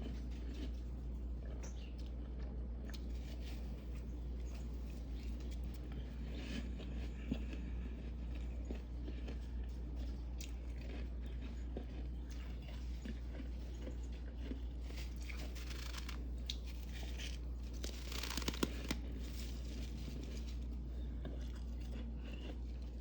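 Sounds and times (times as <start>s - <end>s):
steady low hum: 0.0s - 23.0s
frost crunching and crackling: 2.9s - 23.0s.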